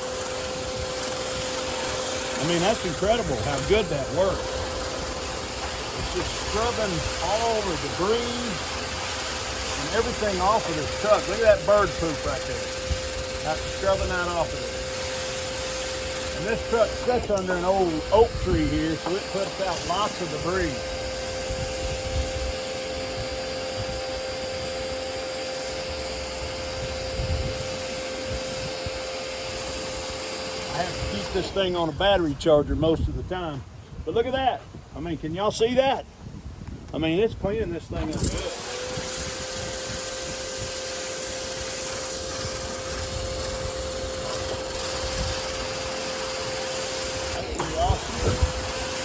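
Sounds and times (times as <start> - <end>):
water spraying hiss: 0.0 - 32.5, 37.9 - 49.0
pressure washer motor whine: 0.0 - 33.1, 37.9 - 49.0.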